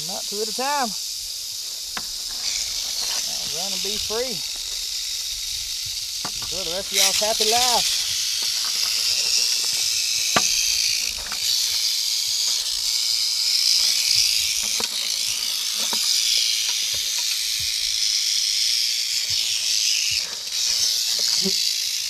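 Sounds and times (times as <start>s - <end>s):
rattlesnakes rattling: 0.0s - 22.0s.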